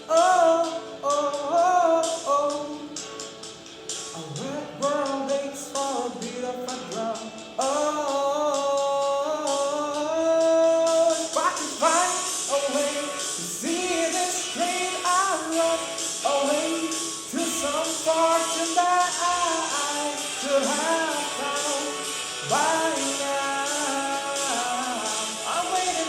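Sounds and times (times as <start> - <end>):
pop-rock song with singing: 0.0 - 26.0.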